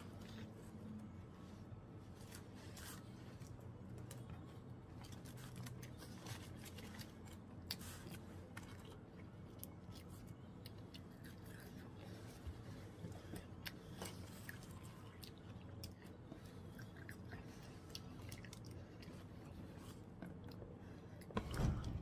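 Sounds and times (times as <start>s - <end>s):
man chewing food: 0.0s - 21.4s
steady low hum: 0.0s - 22.0s.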